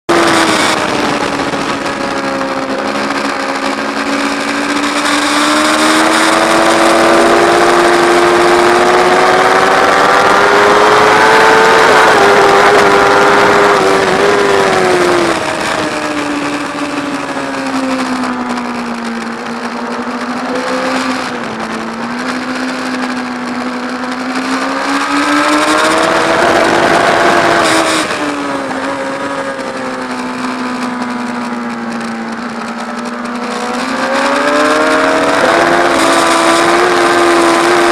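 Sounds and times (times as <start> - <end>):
motorcycle engine at high revs: 0.1 - 37.9
wind rushing: 0.2 - 37.9.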